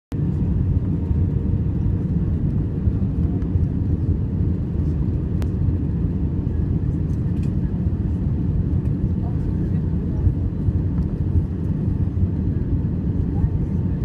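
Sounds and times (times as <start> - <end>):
airplane cabin engine rumble: 0.1 - 14.0.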